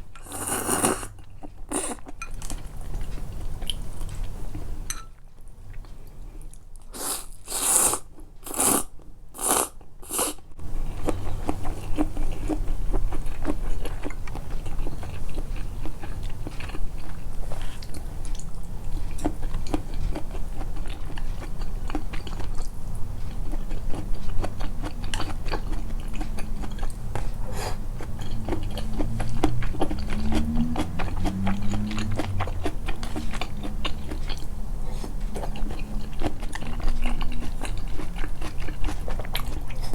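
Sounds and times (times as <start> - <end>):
chewing food with crunches: 0.0 - 39.9.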